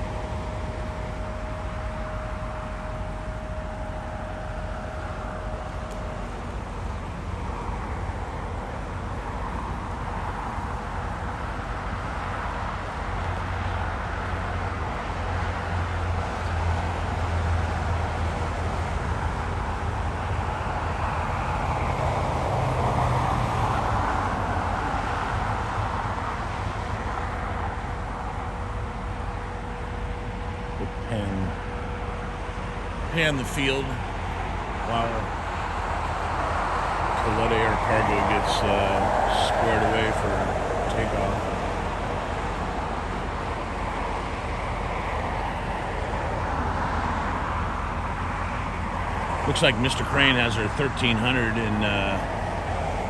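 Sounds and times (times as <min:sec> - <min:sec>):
distant jet aircraft rumble: 0:00.0 - 0:53.0.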